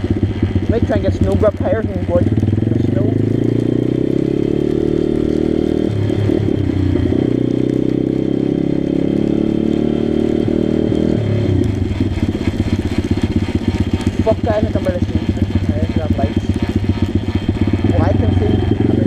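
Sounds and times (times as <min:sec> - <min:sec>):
pit bike engine running: 0:00.0 - 0:19.0.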